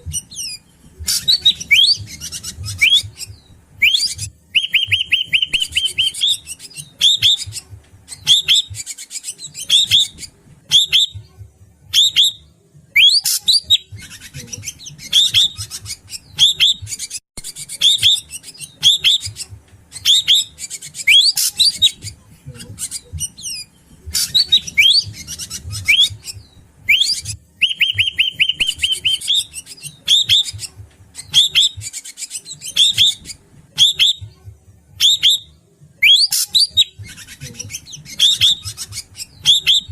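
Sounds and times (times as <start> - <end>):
bird chirps and whistles: 0.0 - 11.3, 11.9 - 22.2, 22.8 - 34.4, 35.0 - 39.9.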